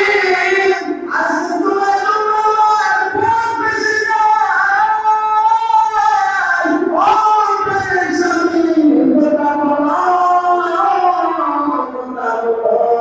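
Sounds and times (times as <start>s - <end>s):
man chanting through microphone: 0.0s - 13.0s.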